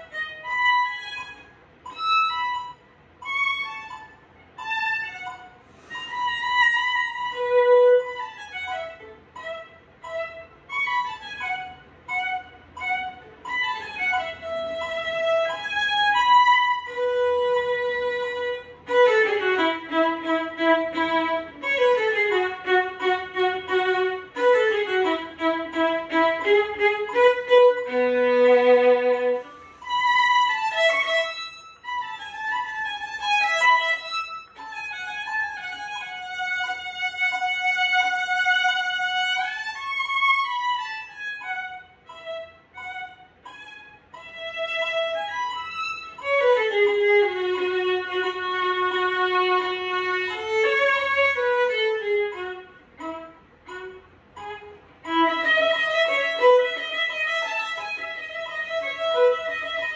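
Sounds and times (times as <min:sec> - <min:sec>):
solo violin: 0:00.0 - 0:59.9.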